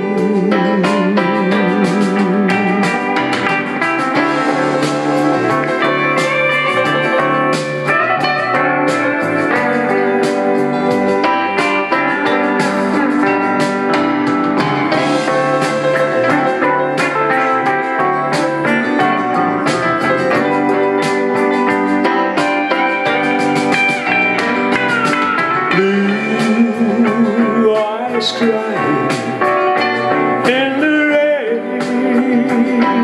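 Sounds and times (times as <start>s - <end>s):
guitars playing melody: 0.0s - 33.0s
sliding steel guitar notes: 0.0s - 33.0s.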